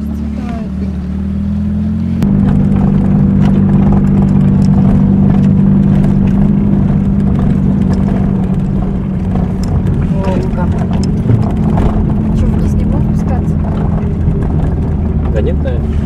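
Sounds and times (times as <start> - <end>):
car engine running: 0.0 - 16.0
knocks and rattles from bumpy road: 0.0 - 16.0.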